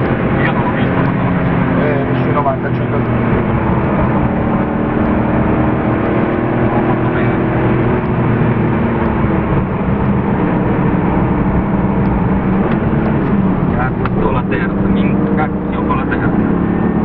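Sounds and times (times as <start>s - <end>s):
car engine under load: 0.0s - 17.0s
tyre and road noise: 0.0s - 17.0s.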